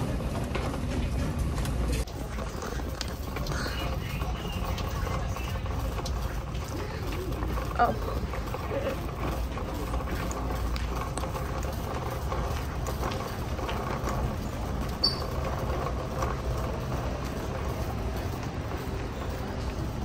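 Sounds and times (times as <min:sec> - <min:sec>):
store low rumble: 0:00.0 - 0:20.0.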